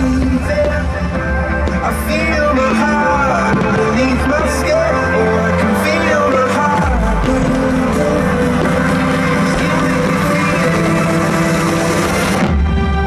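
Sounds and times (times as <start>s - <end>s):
loud rock soundtrack music: 0.0s - 13.0s.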